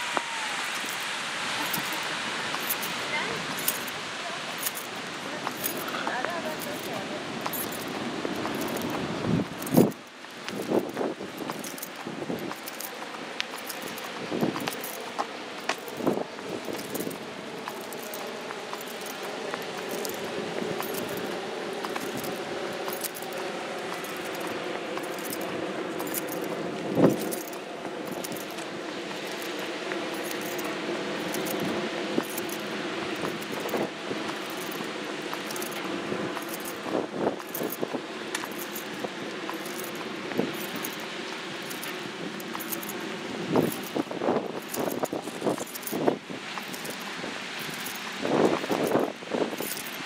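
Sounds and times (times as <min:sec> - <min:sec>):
footsteps with metallic jingle: 0:00.6 - 0:50.0.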